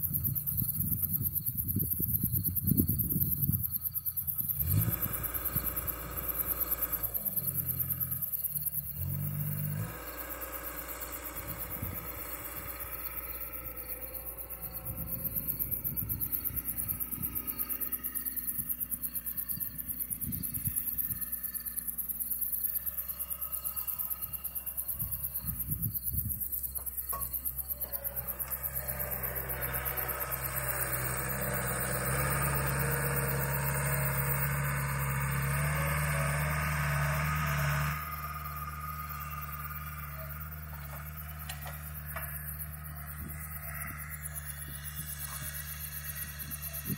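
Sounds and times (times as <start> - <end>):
wheel loader diesel engine: 0.0 - 46.9.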